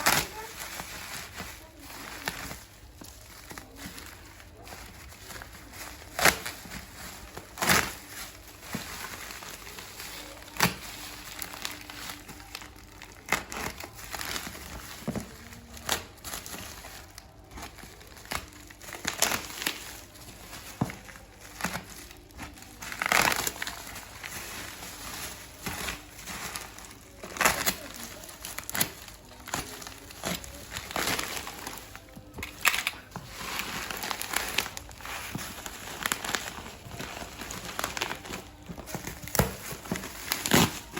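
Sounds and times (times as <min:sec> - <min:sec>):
plastic crinkling and rustling: 0:00.0 - 0:40.9.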